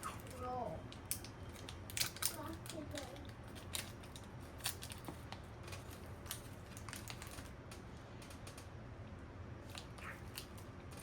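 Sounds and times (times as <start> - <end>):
wrapper clicks and crackles: 0.0 - 8.7, 9.6 - 11.0.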